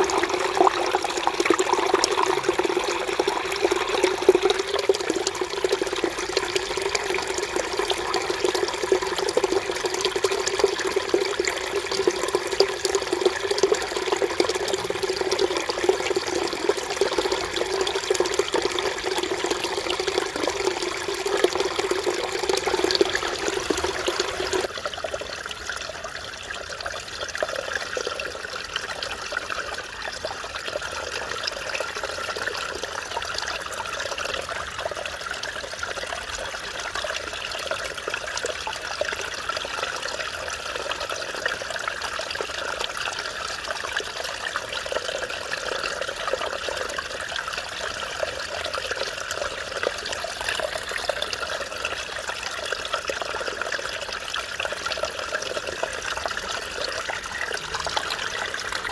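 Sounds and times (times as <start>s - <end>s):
light water trickle: 0.0s - 58.9s
stream babbling over rocks: 0.0s - 58.9s.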